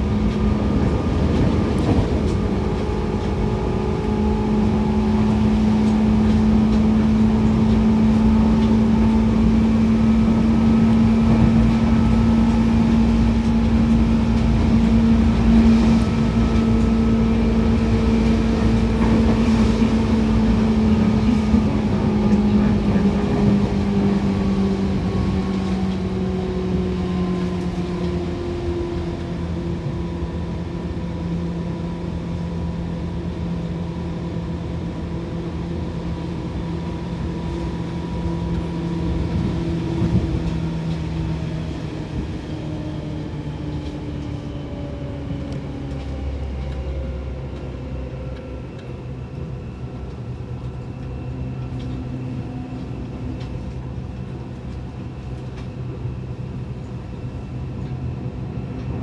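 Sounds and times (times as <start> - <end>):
electric train motor hum: 0.0 - 59.0
wheels rumbling on rails: 0.0 - 59.0.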